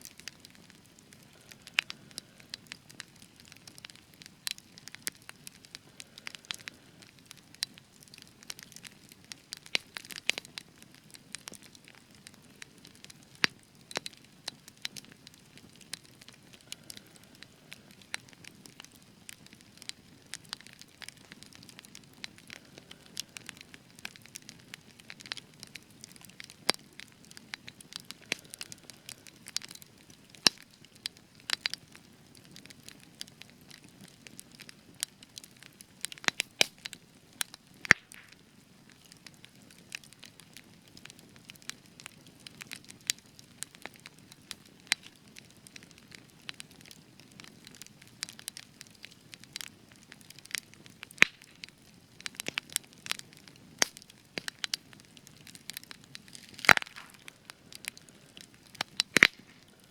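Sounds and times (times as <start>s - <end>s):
campfire crackles and pops: 0.0s - 59.9s.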